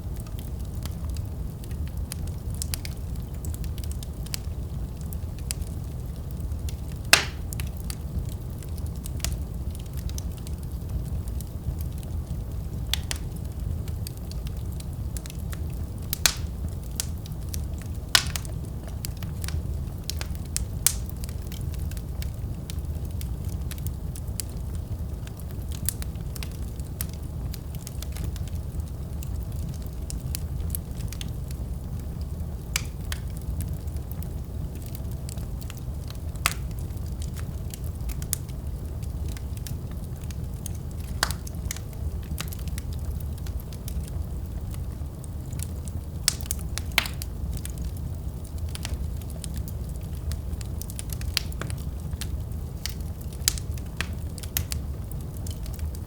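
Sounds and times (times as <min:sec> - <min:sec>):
fire crackling pops and snaps: 0:00.0 - 0:56.0
wood fire rumbling: 0:00.0 - 0:56.0.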